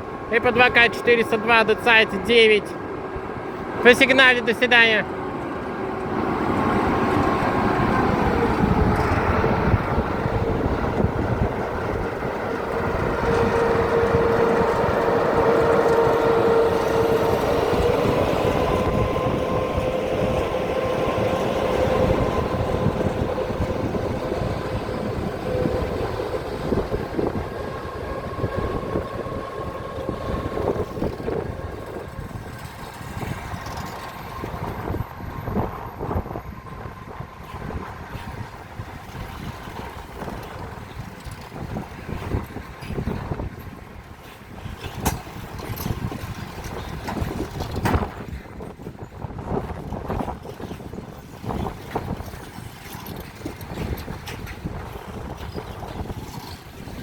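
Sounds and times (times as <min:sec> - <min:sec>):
electric locomotive whine: 0:00.0 - 0:57.0
train rumbling on rails: 0:00.0 - 0:57.0.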